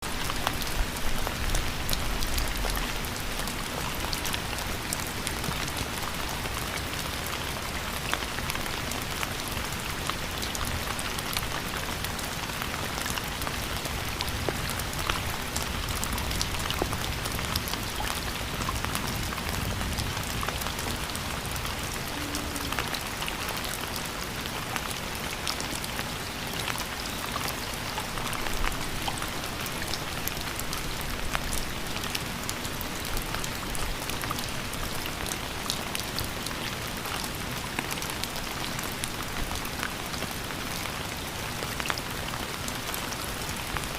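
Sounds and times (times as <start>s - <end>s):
steady rainfall: 0.0s - 43.9s.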